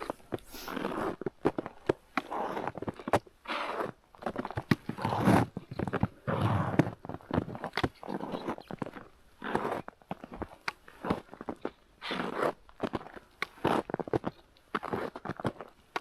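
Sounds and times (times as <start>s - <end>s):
footsteps crunching through snow: 0.0s - 15.7s.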